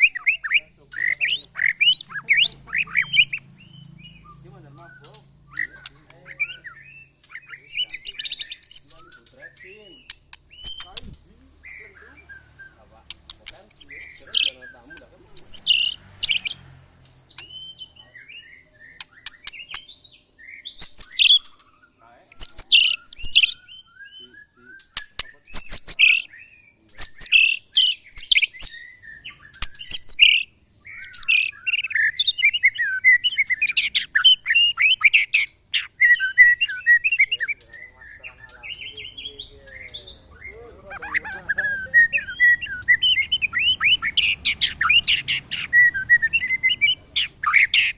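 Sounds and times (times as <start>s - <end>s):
bird song whistles and chattering: 0.0s - 47.9s.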